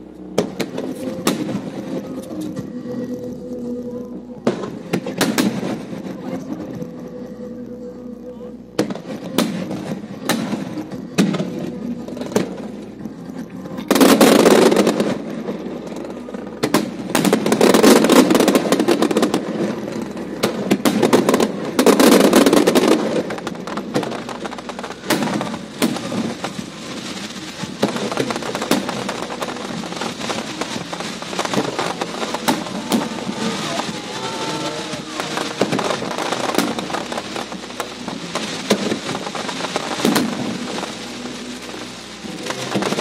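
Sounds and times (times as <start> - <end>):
fireworks bangs: 0.0 - 7.6, 8.8 - 43.0
rapid-fire firework volleys: 0.0 - 43.0.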